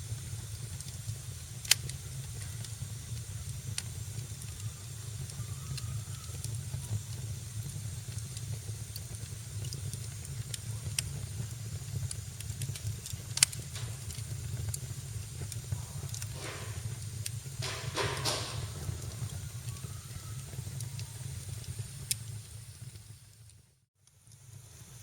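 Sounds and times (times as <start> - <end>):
fire crackling: 0.0 - 25.0
fire popping: 0.0 - 25.0
hissing bursts: 0.1 - 23.2.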